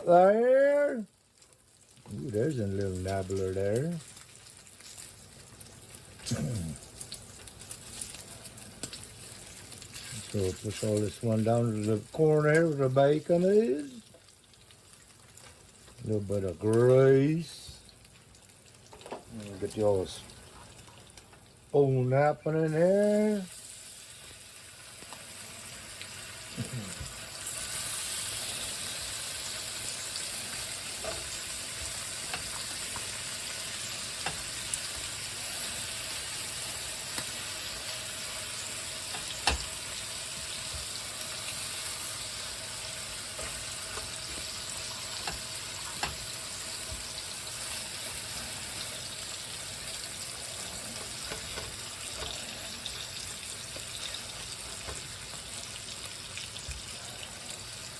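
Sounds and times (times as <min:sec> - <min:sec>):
bacon sizzling in a frying pan: 0:00.0 - 0:57.9.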